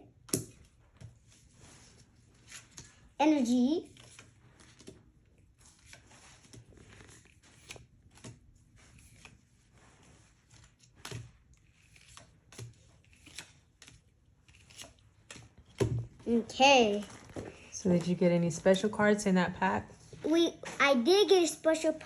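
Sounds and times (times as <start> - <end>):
trading cards rustling and clicking: 0.3 - 18.2.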